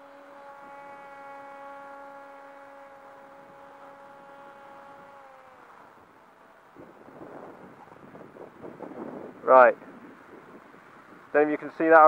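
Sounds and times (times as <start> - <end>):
electric motor and propeller whine: 0.0 - 12.0.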